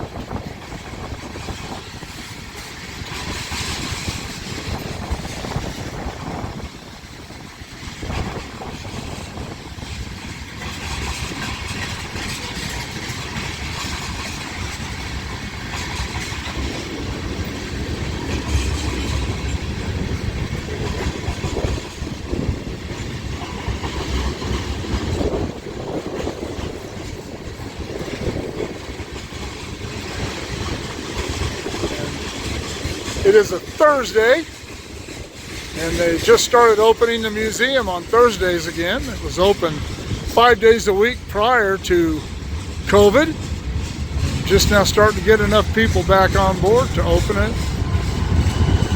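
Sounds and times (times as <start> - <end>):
freight train rolling past: 0.0 - 48.9
wheels knocking on rails: 0.0 - 48.9.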